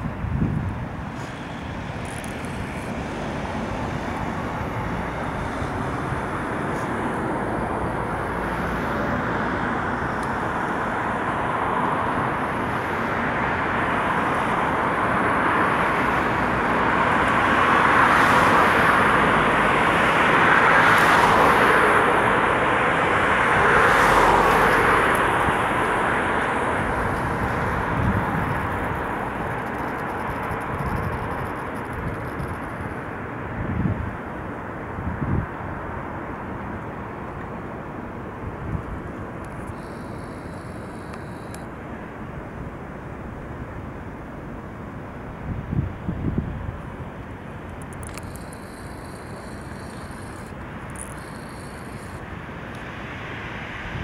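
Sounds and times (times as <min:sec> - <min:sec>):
rushing vehicle engine noise: 0:00.0 - 0:54.0.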